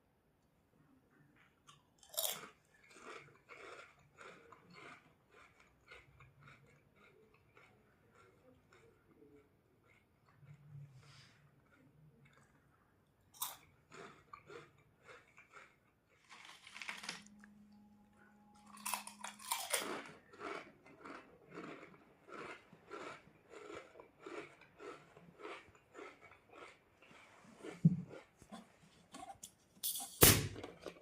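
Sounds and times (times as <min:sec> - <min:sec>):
chips being chewed: 0:01.4 - 0:17.8, 0:18.6 - 0:29.6.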